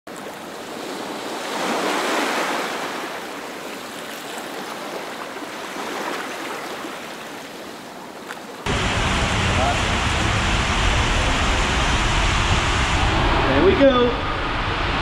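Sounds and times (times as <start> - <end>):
rushing surf-like water: 0.1 - 15.0.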